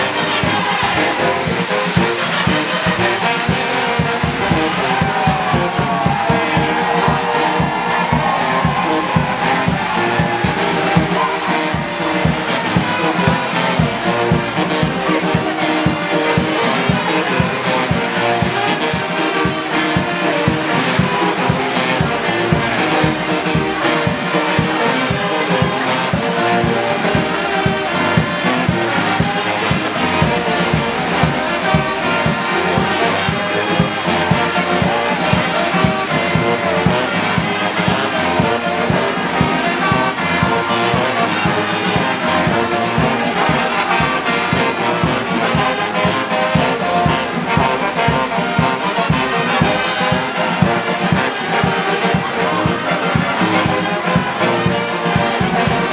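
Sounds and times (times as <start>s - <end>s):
brass band playing march: 0.0s - 55.9s.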